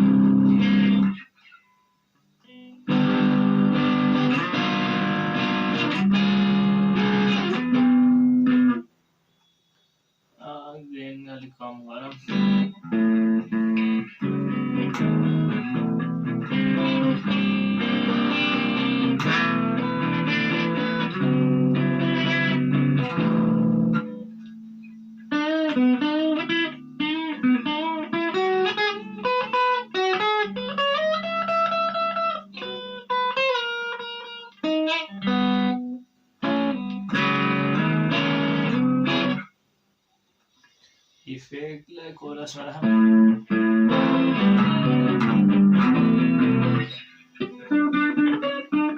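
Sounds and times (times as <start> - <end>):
electric guitar playing: 0.0 - 1.7, 2.4 - 8.9, 12.0 - 39.5, 42.6 - 48.9.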